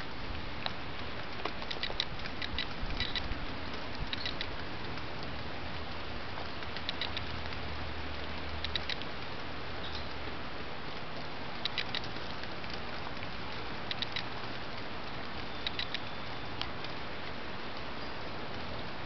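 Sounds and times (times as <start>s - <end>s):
rain hissing: 0.0s - 19.0s
raindrops pattering: 0.0s - 19.0s.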